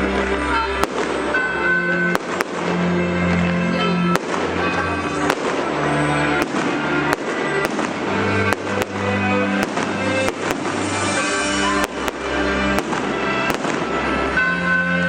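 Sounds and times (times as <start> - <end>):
fireworks bursting with sharp bangs: 0.0 - 14.5
loud music with long held notes: 0.0 - 15.0.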